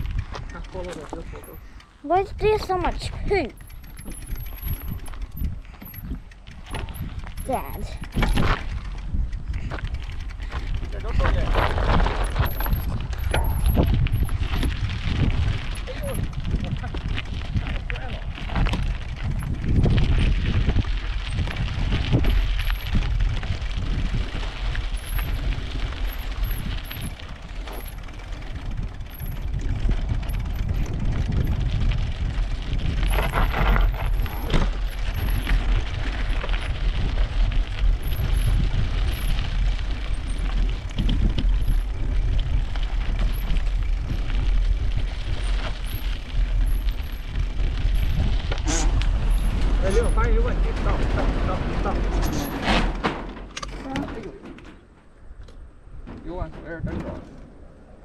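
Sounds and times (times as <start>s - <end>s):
bicycle rolling over gravel: 0.0s - 55.3s
bicycle clatter: 0.0s - 58.0s.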